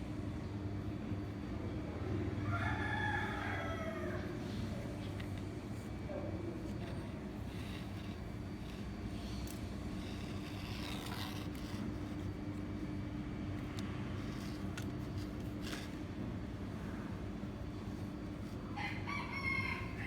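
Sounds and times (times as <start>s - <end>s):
low mechanical rumble and hum: 0.0s - 20.0s.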